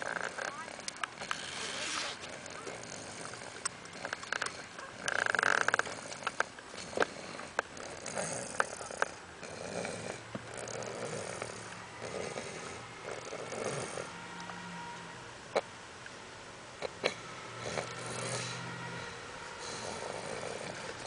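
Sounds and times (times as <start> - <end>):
person snoring: 0.0 - 14.1, 16.8 - 21.0
noisy breaths: 0.0 - 15.6, 16.8 - 21.0.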